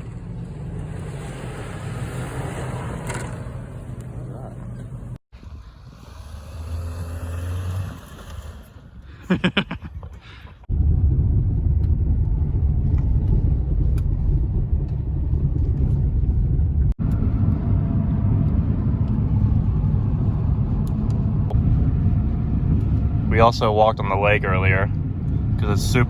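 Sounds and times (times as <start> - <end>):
car driving on dirt road: 0.0 - 26.0.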